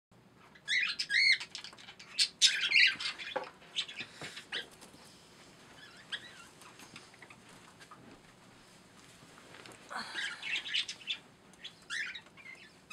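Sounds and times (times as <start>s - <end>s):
caged birds chirping: 0.3s - 8.2s, 9.9s - 12.9s.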